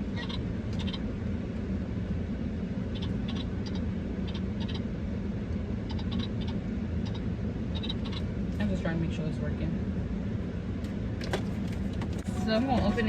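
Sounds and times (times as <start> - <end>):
car cabin engine rumble: 0.0 - 13.0.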